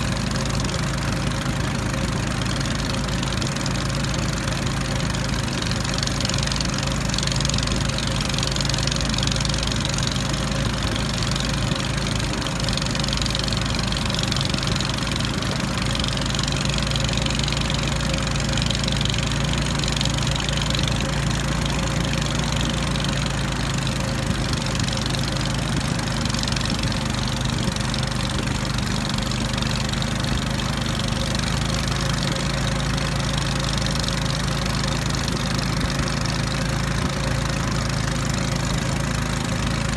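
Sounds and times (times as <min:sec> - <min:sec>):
small outboard engine humming: 0:00.0 - 0:39.9.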